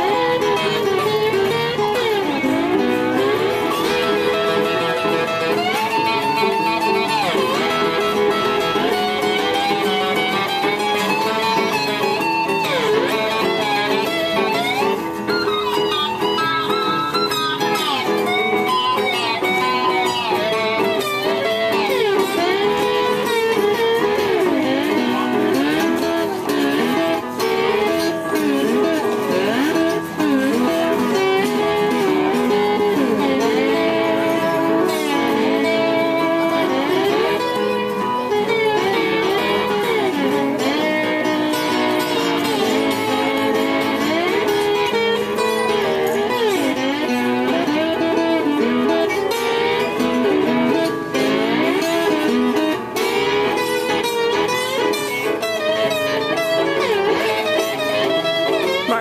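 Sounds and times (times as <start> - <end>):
acoustic guitar: 0.0 - 59.0
electric guitar bending notes: 0.0 - 59.0
electric keyboard: 0.0 - 59.0.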